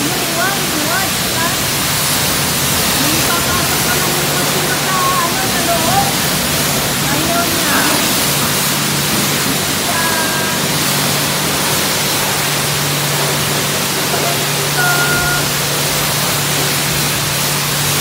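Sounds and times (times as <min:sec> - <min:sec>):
pressure washer spraying water: 0:00.0 - 0:18.0.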